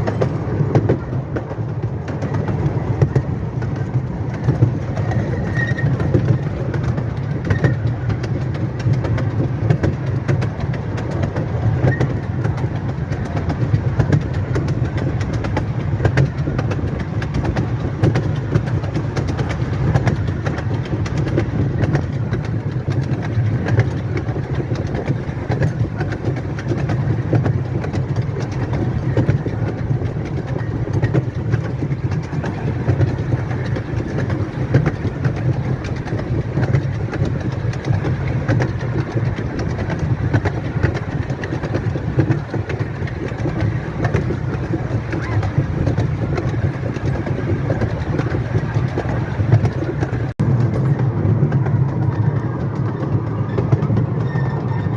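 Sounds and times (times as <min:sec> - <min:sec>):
miniature train rumbling on track: 0:00.0 - 0:54.9
wheels clicking on rails: 0:00.0 - 0:54.9.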